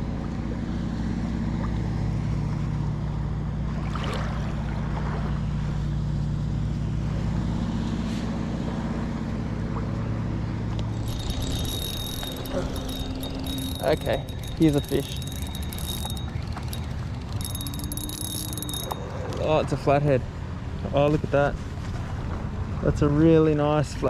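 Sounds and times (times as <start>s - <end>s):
motorboat engine droning: 0.0s - 24.0s.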